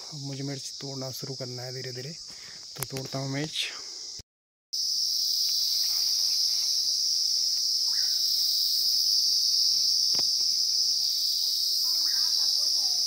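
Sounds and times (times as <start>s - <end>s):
insect chorus: 0.0s - 4.2s, 4.8s - 13.0s.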